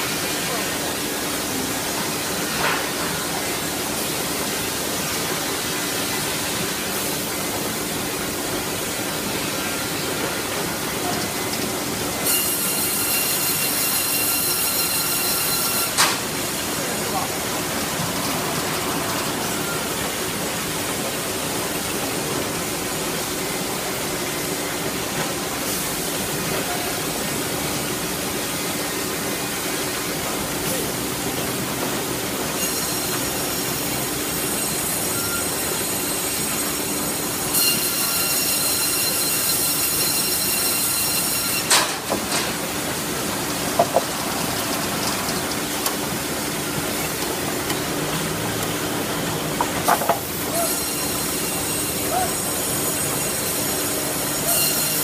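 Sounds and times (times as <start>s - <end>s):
sawmill machinery hum: 0.0s - 55.0s.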